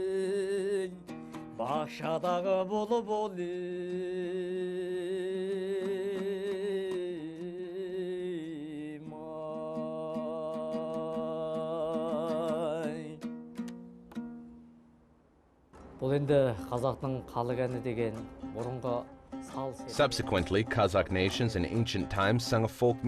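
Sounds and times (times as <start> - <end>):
man singing folk song: 0.0 - 13.6, 17.6 - 23.0
strummed lute: 0.0 - 15.1, 15.8 - 23.0.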